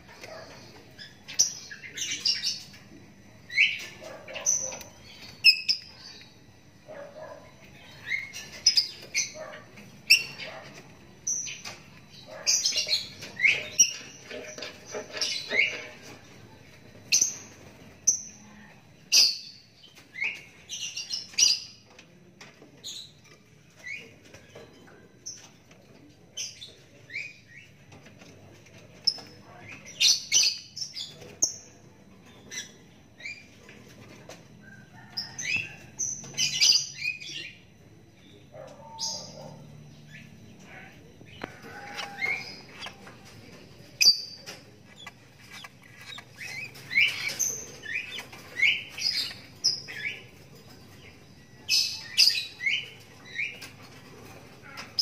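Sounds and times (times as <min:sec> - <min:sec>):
bird chirping: 0:00.0 - 0:22.0, 0:22.8 - 0:55.0.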